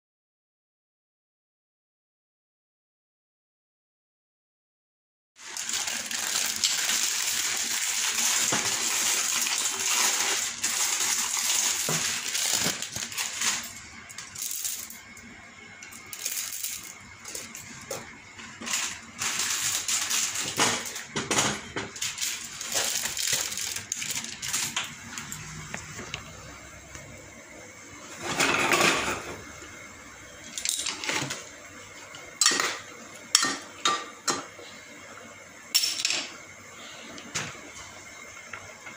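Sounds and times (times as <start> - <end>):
pasta boiling in water: 5.4 - 38.9.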